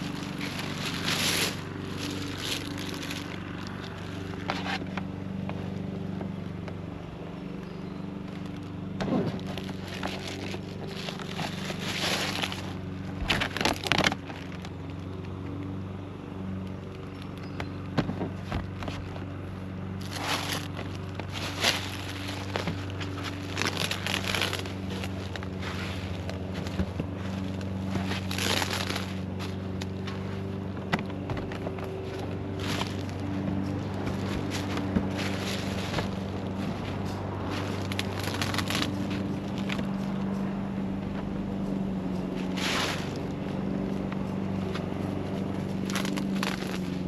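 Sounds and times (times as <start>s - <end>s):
tar paper crackling: 0.0s - 5.4s, 8.2s - 15.6s, 19.9s - 40.4s, 41.6s - 47.0s
steady low hum: 0.0s - 47.0s.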